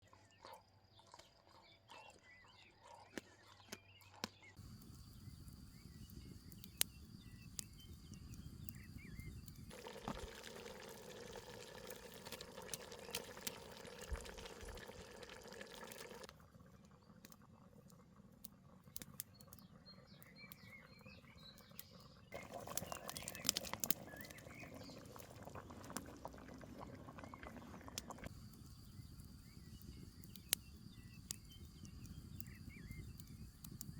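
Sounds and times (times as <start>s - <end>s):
wood fire crackling and popping: 4.6s - 19.7s, 21.5s - 33.9s
pot bubbling: 4.6s - 33.9s.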